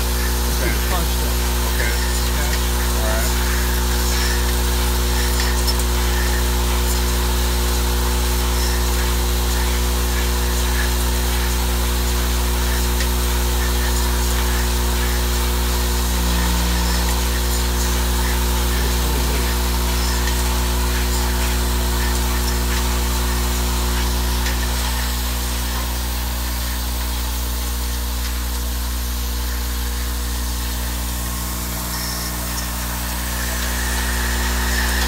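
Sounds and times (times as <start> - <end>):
steady electric buzz: 0.0 - 35.0.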